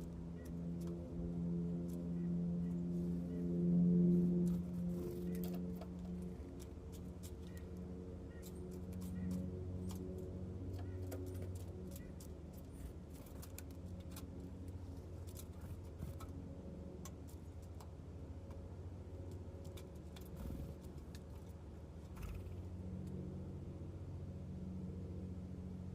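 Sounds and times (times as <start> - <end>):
birds pecking seed at a feeder: 0.0 - 3.4, 4.1 - 23.2
low hum: 0.0 - 25.9.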